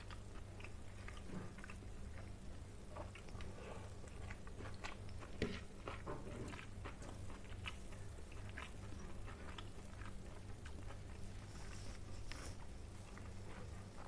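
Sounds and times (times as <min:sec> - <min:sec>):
wet chewing and lip smacks: 0:00.0 - 0:14.0.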